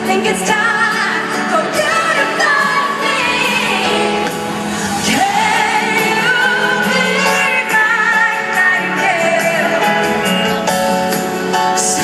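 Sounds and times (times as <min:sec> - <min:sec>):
woman singing a ballad live: 0:00.0 - 0:10.7
band accompaniment: 0:00.0 - 0:12.0.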